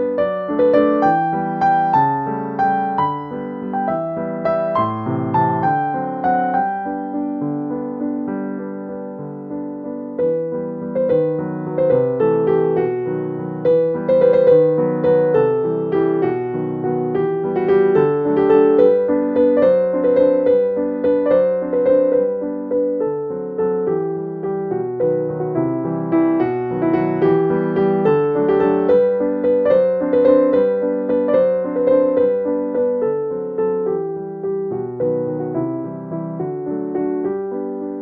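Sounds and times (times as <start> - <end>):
gentle piano melody: 0.0 - 38.0.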